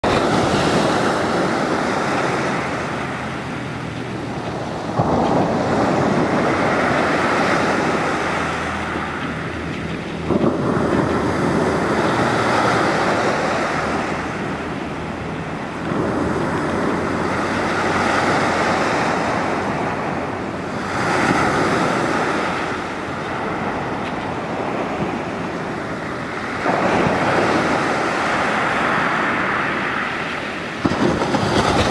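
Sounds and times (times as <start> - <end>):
sea waves breaking on shore: 0.0 - 31.9.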